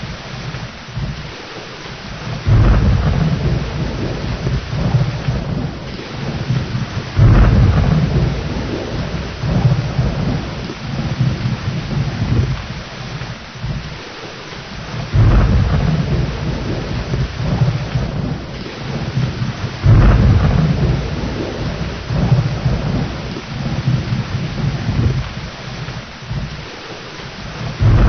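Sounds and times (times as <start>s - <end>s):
heavy rain: 0.0s - 28.0s
rolling thunder: 2.1s - 14.1s, 14.8s - 26.7s, 27.4s - 28.0s
loud thunder claps: 2.2s - 14.0s, 14.9s - 26.7s, 27.5s - 28.0s.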